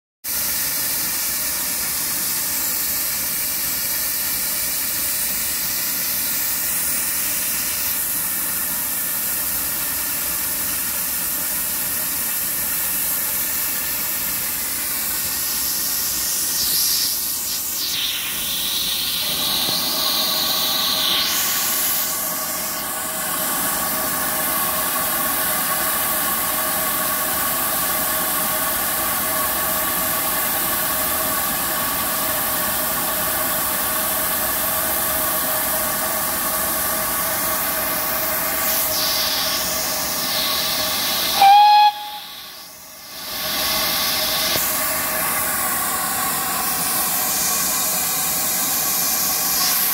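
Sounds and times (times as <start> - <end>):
steam locomotive hissing: 0.3 - 49.9.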